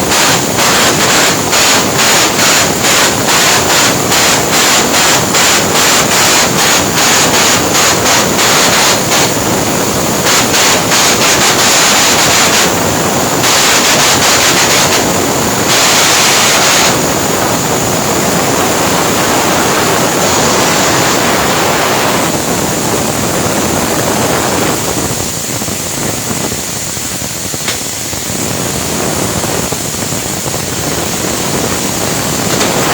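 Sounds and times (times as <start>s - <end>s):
thin high whine: 0.0s - 32.9s
welding arc crackling: 0.0s - 32.9s.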